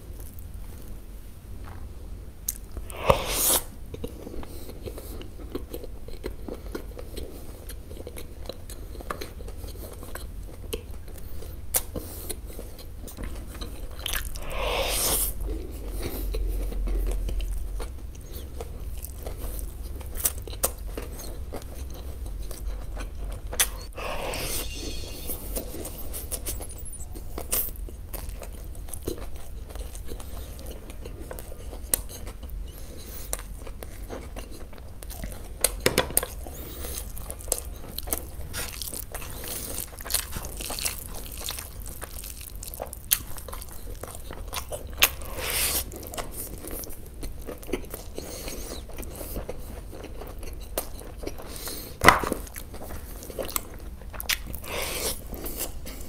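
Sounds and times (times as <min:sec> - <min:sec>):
person chewing food: 0:01.6 - 0:56.0.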